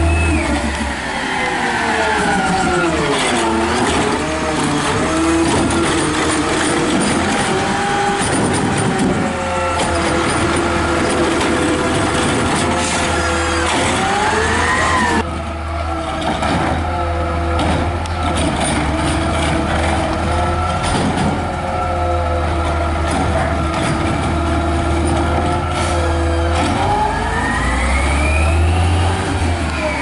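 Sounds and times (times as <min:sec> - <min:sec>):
garbage truck engine revving: 0:00.0 - 0:30.0.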